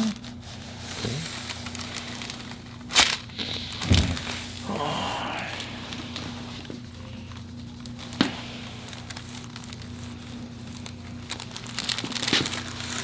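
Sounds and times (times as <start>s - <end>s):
rustling and crinkling on table: 0.0s - 13.0s
steady low hum: 0.0s - 13.0s.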